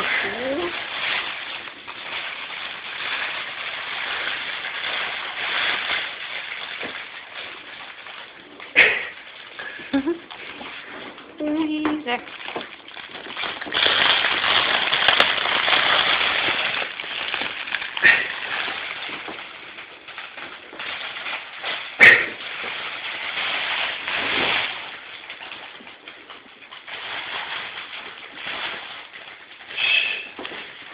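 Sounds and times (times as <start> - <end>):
fabric tunnel rustling and crinkling: 0.0 - 30.9.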